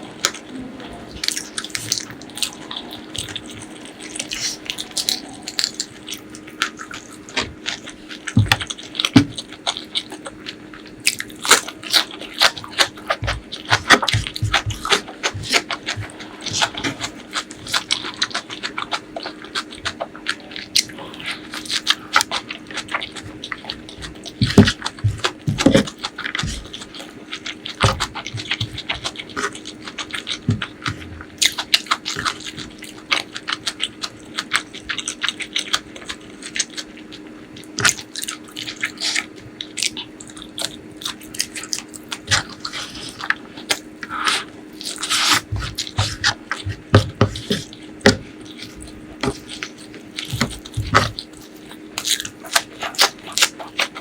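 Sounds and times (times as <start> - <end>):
faint steady hum: 0.0 - 54.0
person chewing food: 0.0 - 54.0.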